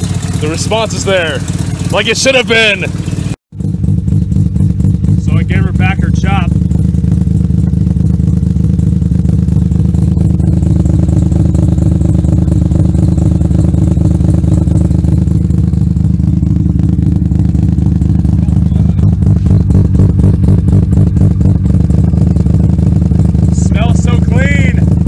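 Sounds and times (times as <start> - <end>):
rotary engine idling: 0.0 - 25.0.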